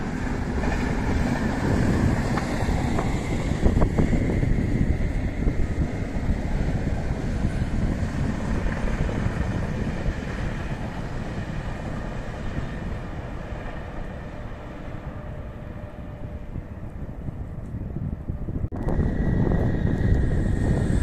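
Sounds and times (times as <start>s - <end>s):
train rumbling along tracks: 0.0s - 21.0s.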